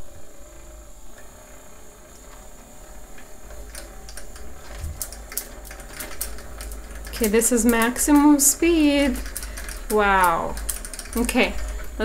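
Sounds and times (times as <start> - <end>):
small electric motor humming: 0.0 - 12.0.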